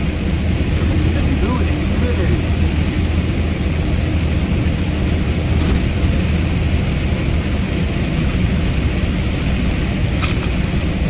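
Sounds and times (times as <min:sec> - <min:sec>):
truck engine: 0:00.0 - 0:11.0.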